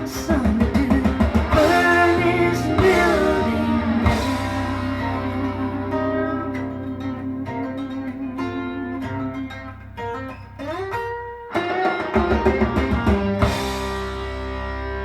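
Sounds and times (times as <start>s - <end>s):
picked guitar notes with slide: 0.0s - 15.0s
rock band playing: 0.0s - 15.0s.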